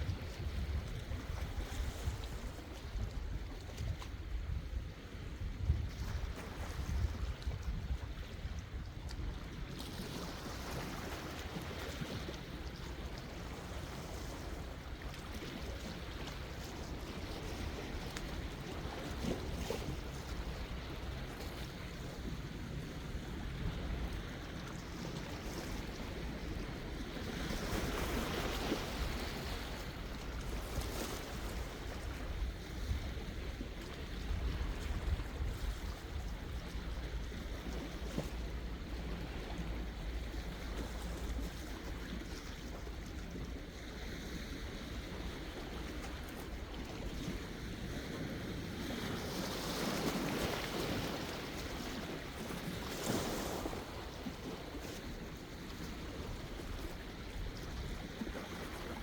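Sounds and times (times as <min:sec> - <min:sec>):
sea waves washing ashore: 0:00.0 - 0:59.0
wind rumble on microphone: 0:00.0 - 0:59.0.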